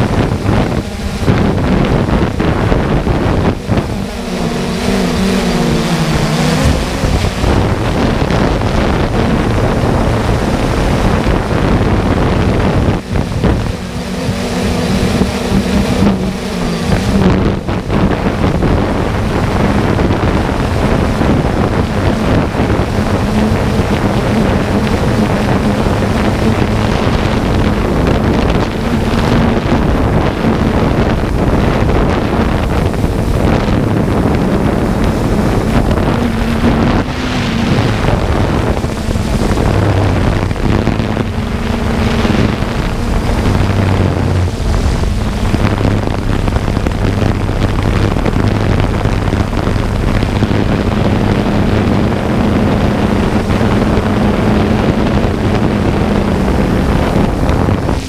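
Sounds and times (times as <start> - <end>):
drone propellers buzzing: 0.0 - 58.0
wind on microphone: 0.0 - 58.0.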